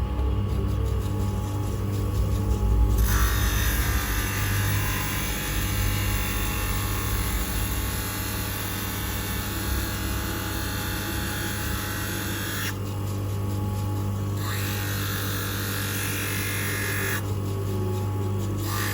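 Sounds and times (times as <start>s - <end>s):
motor humming: 0.0s - 18.9s.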